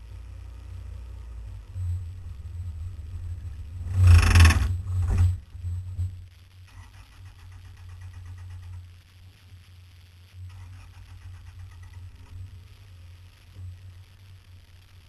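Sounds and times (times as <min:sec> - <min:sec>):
off-road vehicle engine running low: 0:00.0 - 0:15.0
rough burst of noise: 0:00.0 - 0:15.0.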